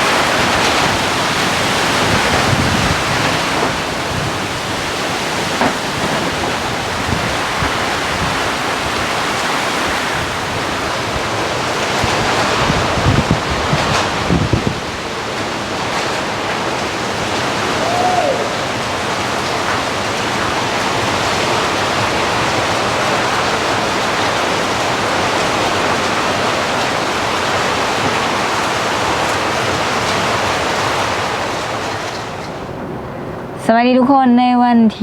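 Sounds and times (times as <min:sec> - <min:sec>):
heavy rain rushing: 0:00.0 - 0:33.8.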